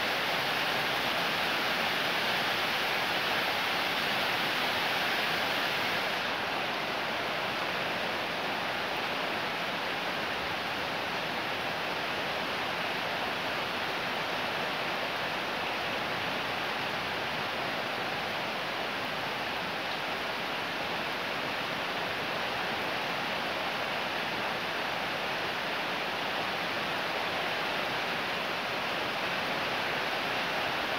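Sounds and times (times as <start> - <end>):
heavy rain pouring: 0.0 - 30.9.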